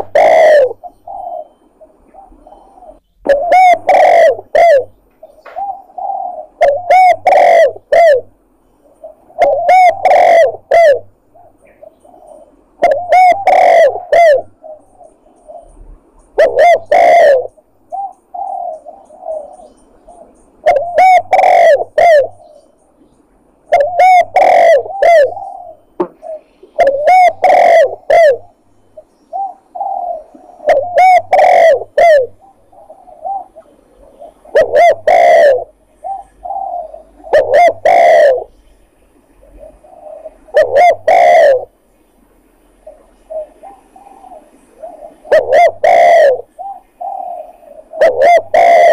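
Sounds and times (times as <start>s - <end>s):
dove cooing: 0.0s - 41.9s, 42.6s - 48.9s.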